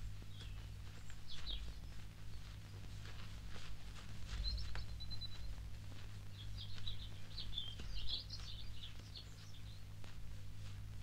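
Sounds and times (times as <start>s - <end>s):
small birds chirping: 0.0s - 3.3s, 4.1s - 10.7s.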